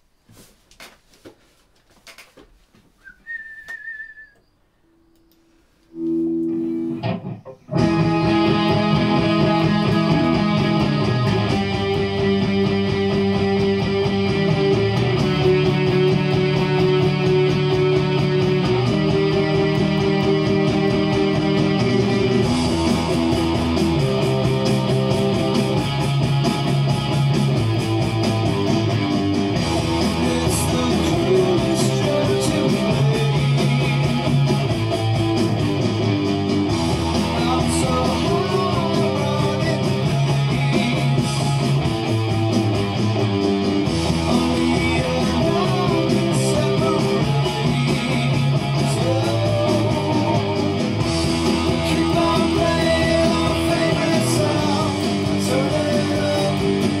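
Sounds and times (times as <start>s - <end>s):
electric guitar rock riffs: 5.9s - 57.0s
full band backing track: 7.8s - 57.0s.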